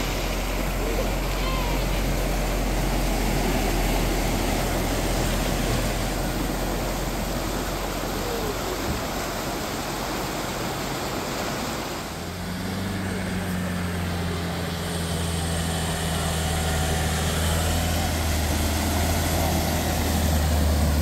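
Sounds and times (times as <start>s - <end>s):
floodwater rushing: 0.0s - 21.0s
van engine running: 0.0s - 21.0s
wheels churning water: 0.0s - 21.0s.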